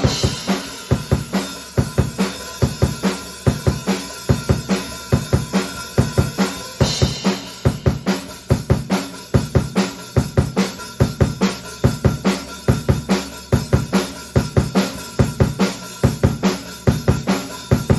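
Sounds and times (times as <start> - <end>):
drum kit playing fast beat: 0.0 - 17.9.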